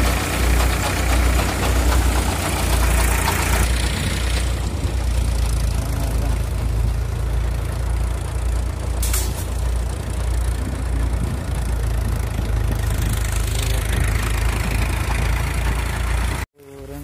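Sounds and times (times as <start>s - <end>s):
tractor engine pulsing: 0.0s - 17.0s.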